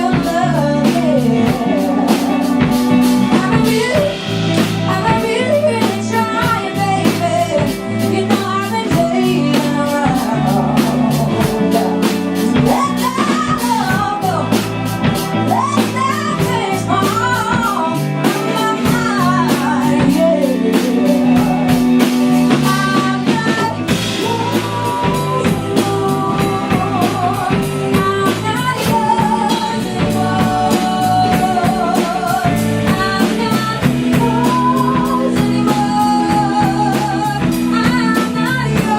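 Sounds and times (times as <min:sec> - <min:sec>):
drum kit: 0:00.0 - 0:38.9
female lead vocal: 0:00.0 - 0:38.9
guitar: 0:00.0 - 0:38.9.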